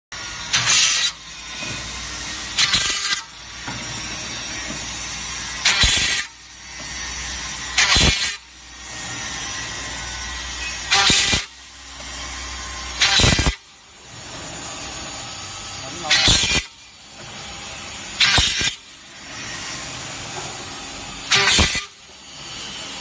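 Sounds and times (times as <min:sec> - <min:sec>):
drilling machine running: 0:00.1 - 0:23.0.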